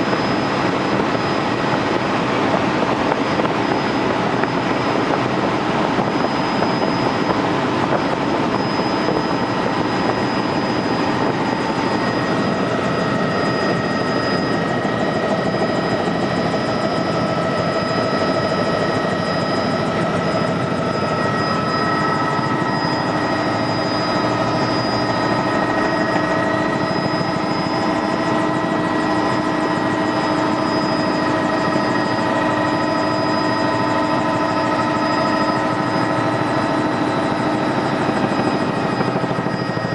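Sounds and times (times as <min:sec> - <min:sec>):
helicopter rotor drone: 0:00.0 - 0:39.9
turbine whine: 0:00.0 - 0:39.9.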